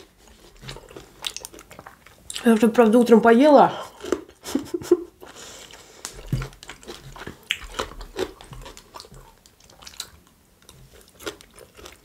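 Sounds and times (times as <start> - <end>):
person chewing food: 0.0 - 2.6, 3.8 - 12.0.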